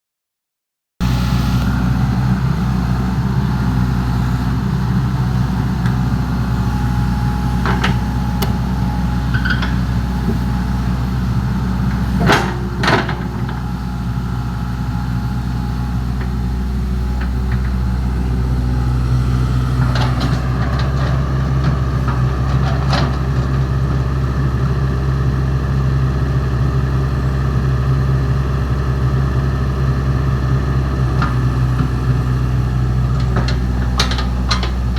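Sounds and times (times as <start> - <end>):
diesel engine idling: 1.0 - 34.9.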